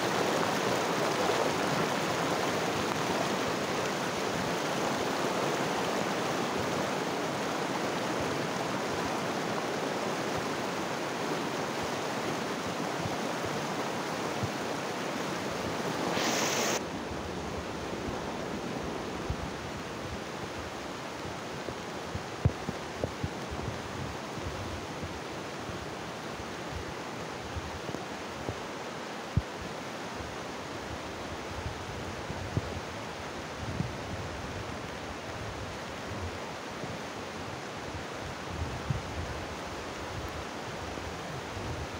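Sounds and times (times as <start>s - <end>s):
river rushing over rocks: 0.0s - 41.9s.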